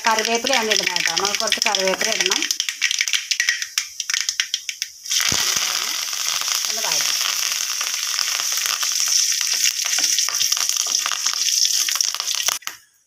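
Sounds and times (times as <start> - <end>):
loud sizzle in hot oil: 0.0 - 12.7
oil popping: 0.0 - 12.7.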